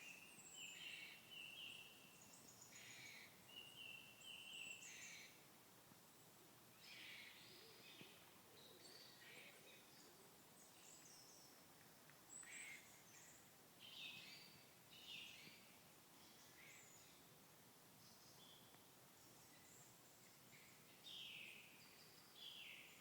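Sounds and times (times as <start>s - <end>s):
faint songbirds chirping: 0.0s - 23.0s
steady low hiss: 0.0s - 23.0s.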